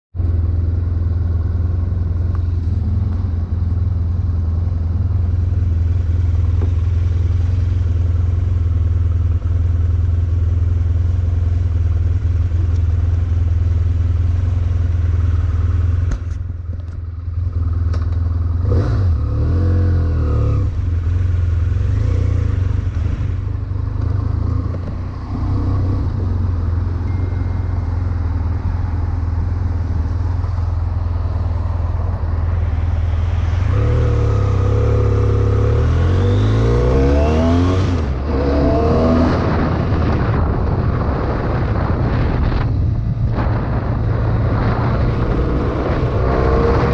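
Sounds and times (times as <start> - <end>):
motorcycle engine droning: 0.1 - 46.9.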